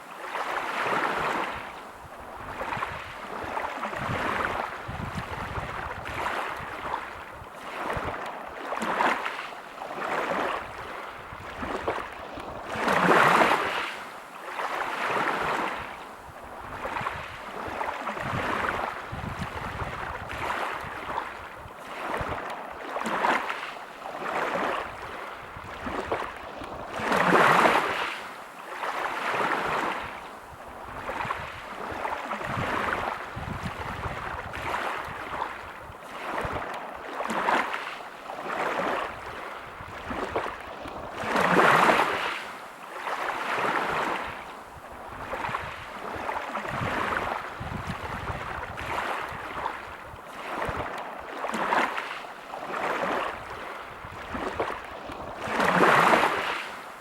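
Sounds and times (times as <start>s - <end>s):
waves on pebble beach: 0.0s - 57.0s.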